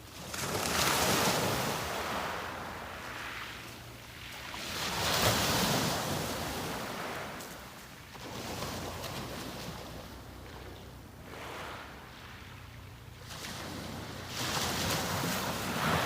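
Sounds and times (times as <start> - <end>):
sea waves breaking on beach: 0.0 - 10.2, 11.2 - 16.0.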